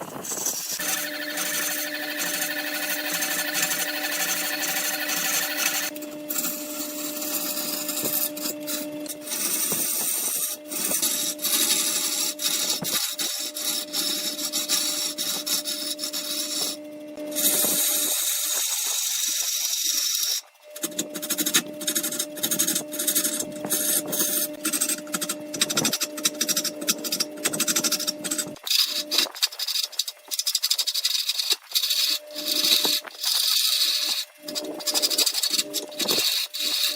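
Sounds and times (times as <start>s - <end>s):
tool scraping spinning wood: 0.0s - 36.9s
wood lathe humming: 0.2s - 36.9s.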